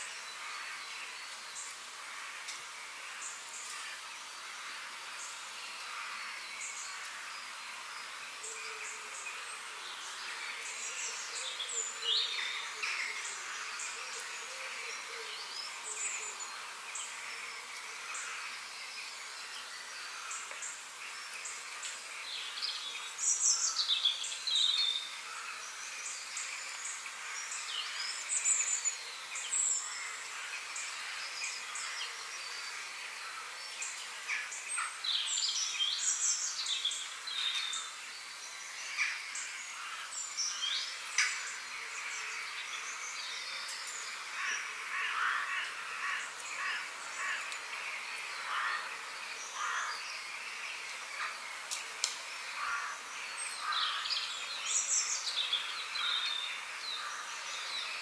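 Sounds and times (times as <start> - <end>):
outdoor ambience hiss: 0.0 - 58.0
songbirds chirping: 0.0 - 58.0.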